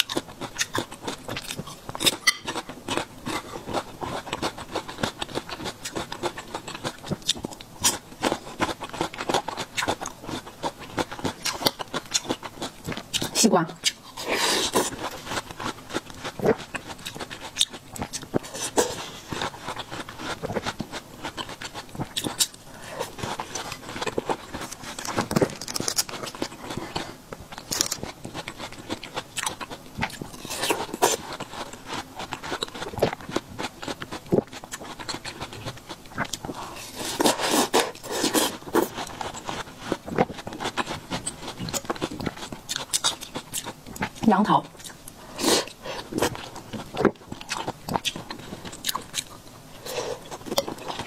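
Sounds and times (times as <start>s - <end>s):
wet crunchy chewing: 0.0s - 51.0s.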